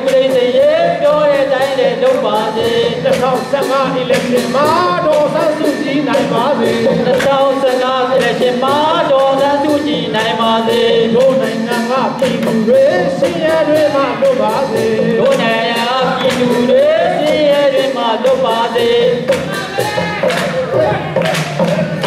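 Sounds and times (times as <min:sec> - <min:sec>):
backing track with steady beat: 0:00.0 - 0:22.0
group singing: 0:00.0 - 0:22.0.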